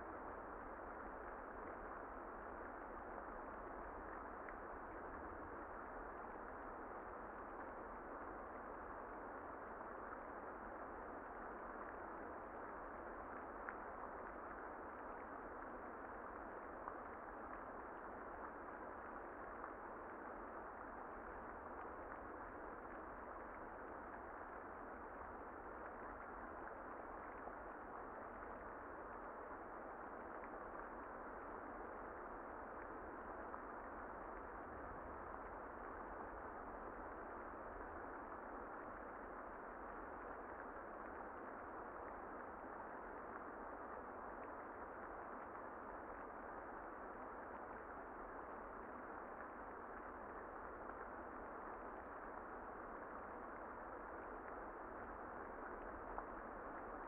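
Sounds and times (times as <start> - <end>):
muffled rain hiss: 0.0 - 57.0
faint ticks: 0.1 - 57.0.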